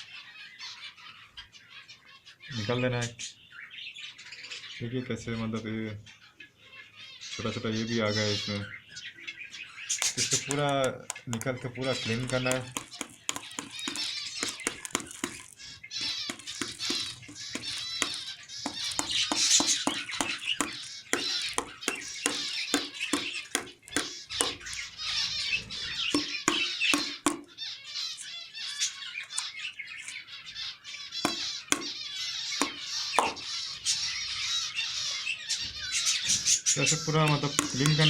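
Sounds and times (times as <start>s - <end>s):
finches chattering and chirping: 0.0s - 38.0s.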